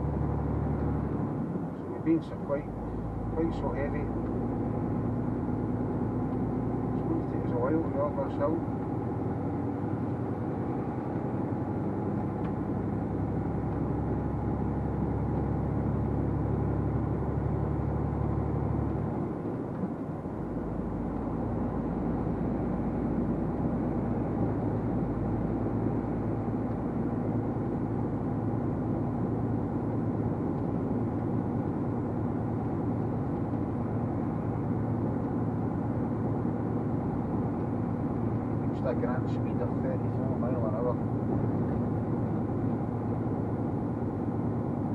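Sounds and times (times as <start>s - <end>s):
truck engine pulling uphill: 0.0s - 44.9s.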